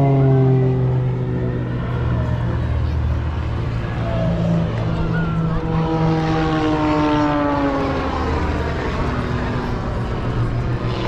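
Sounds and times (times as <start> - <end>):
aircraft flying past: 0.0 - 11.0.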